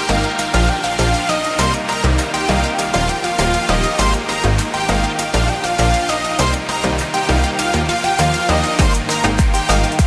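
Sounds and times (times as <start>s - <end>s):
electronic music with pulsing bass: 0.0s - 10.0s.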